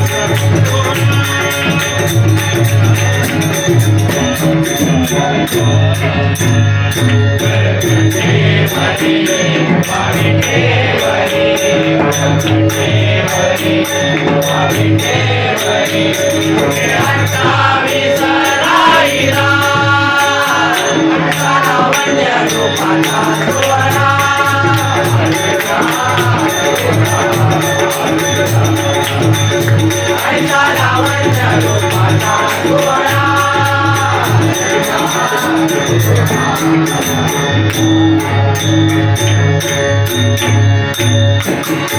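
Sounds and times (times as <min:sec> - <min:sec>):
voices singing: 0:00.0 - 0:39.4
harmonium: 0:00.0 - 0:41.9
jingling percussion: 0:00.0 - 0:41.9.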